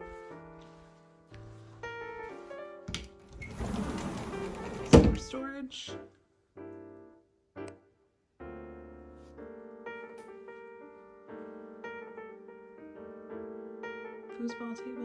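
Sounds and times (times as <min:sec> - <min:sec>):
piano music: 0:00.0 - 0:05.5, 0:08.4 - 0:15.0.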